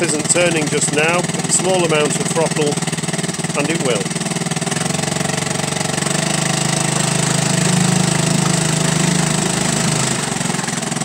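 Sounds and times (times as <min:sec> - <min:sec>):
outboard engine running: 0:00.0 - 0:11.0.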